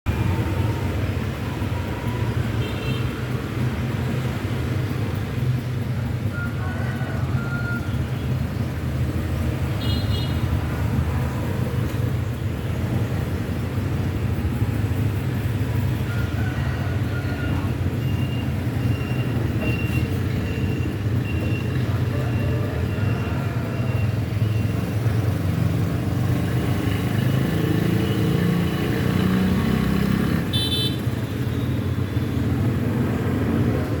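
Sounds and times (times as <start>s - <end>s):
traffic engine rumble: 0.0s - 34.0s.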